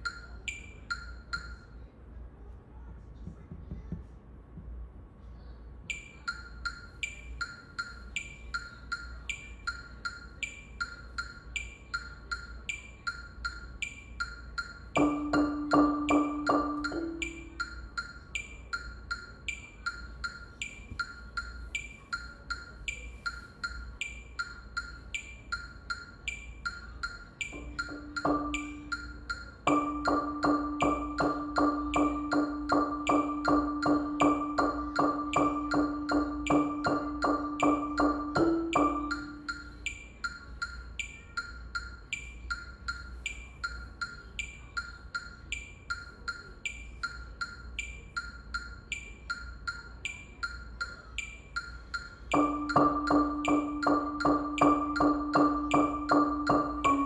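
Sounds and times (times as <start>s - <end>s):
metronome clicking: 0.0s - 1.7s, 5.9s - 57.0s
marimba note strokes: 5.9s - 44.2s, 46.7s - 57.0s.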